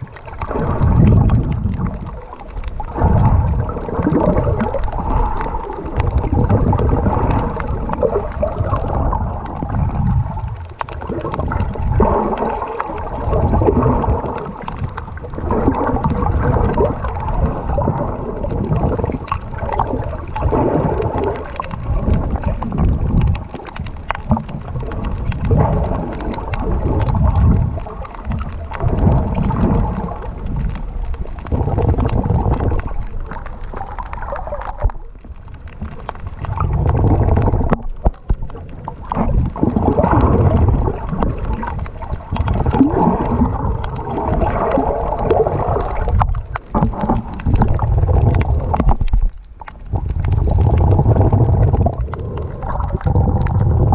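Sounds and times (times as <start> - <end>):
muffled water sloshing and gurgling: 0.0 - 53.9.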